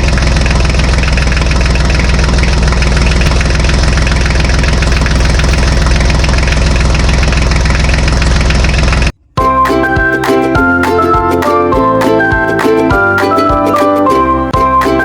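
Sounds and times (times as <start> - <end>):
tractor engine idling: 0.0 - 13.2.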